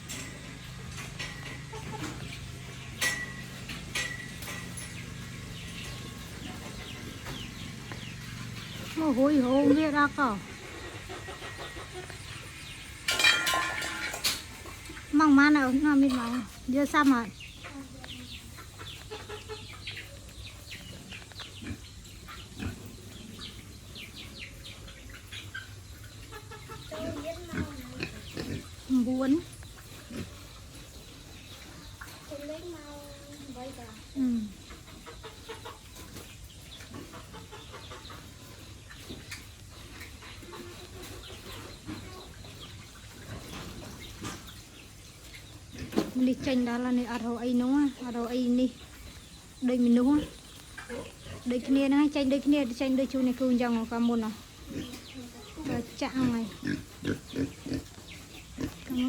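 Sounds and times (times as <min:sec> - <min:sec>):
chickens chirping: 0:00.0 - 0:59.0
chickens clucking: 0:00.0 - 0:59.0.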